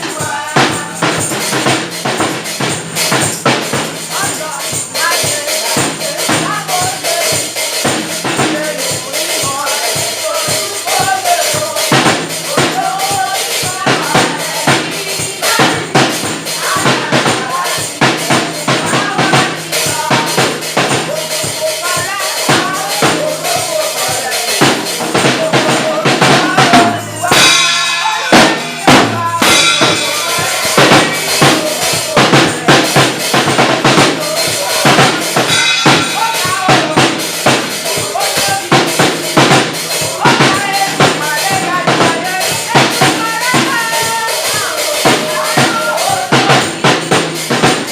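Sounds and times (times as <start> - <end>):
drum kit steady beat: 0.0 - 47.9
voices singing: 0.0 - 47.9.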